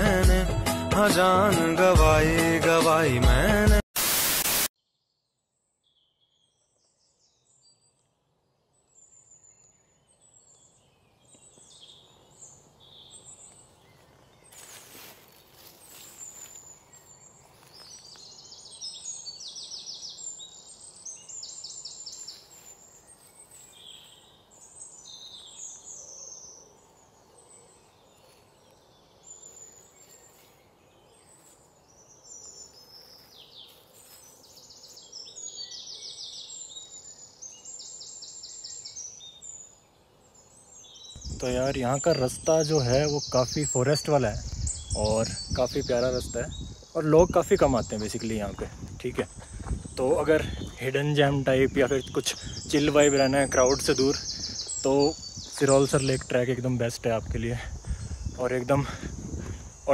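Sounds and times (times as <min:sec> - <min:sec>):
birds chirping and trilling: 0:04.8 - 0:59.9
faint outdoor hiss: 0:05.9 - 0:59.9.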